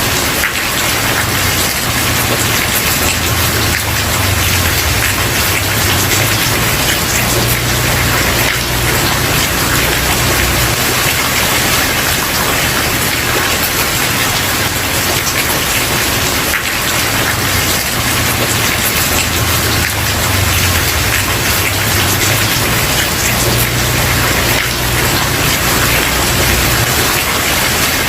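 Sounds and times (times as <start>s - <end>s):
rain on wooden porch: 0.0s - 28.0s.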